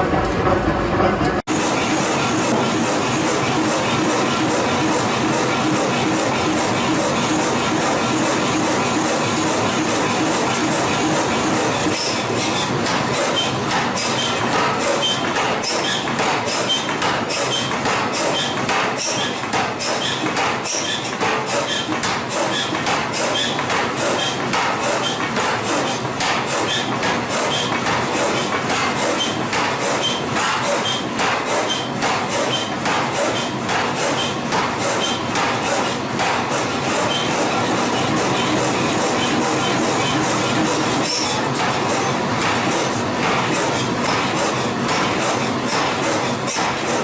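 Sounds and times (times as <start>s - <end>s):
machinery clattering: 0.0s - 47.0s.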